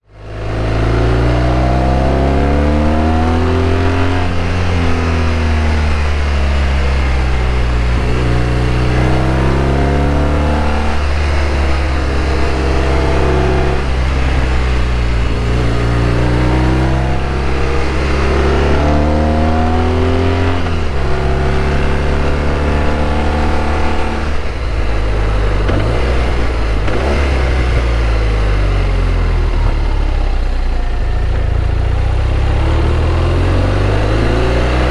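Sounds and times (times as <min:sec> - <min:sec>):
motorcycle engine accelerating: 0:00.0 - 0:34.9
steady rushing noise: 0:00.2 - 0:30.2.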